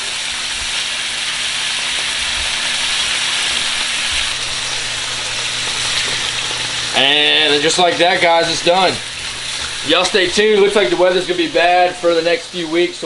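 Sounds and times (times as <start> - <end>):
fish searing in a frying pan: 0.0 - 13.0.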